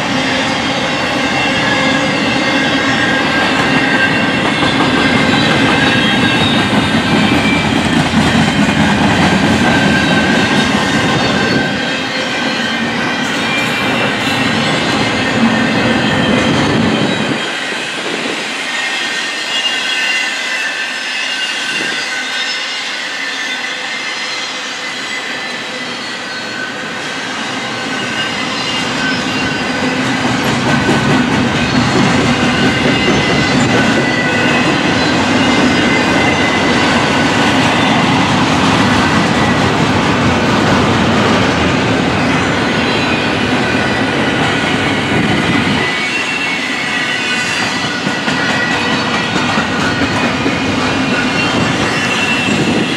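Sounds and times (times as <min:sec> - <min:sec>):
train wheels rumbling on rails: 0:00.0 - 0:52.9
high-pitched wheel squeal: 0:00.2 - 0:39.6, 0:42.2 - 0:52.9.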